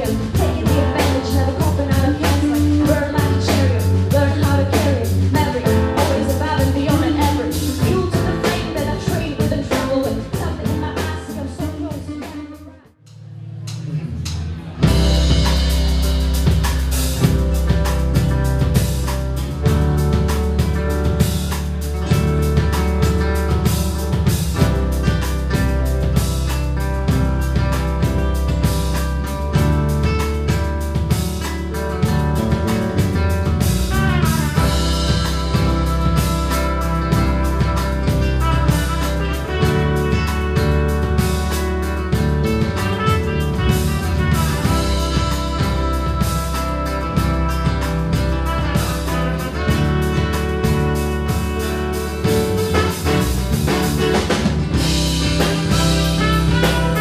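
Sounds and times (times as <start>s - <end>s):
drums keeping a beat: 0.0s - 12.8s, 13.6s - 57.0s
live rock band playing: 0.0s - 57.0s
sustained guitar tones: 0.0s - 57.0s.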